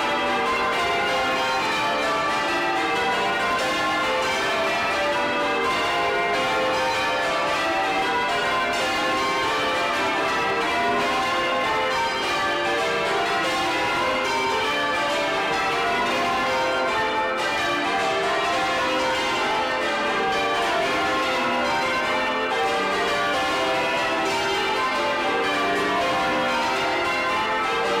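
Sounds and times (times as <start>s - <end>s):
church bells change ringing: 0.0s - 28.0s.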